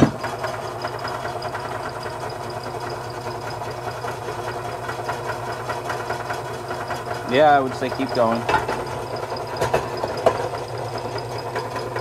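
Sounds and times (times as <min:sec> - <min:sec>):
drill press motor humming and whining: 0:00.0 - 0:12.0.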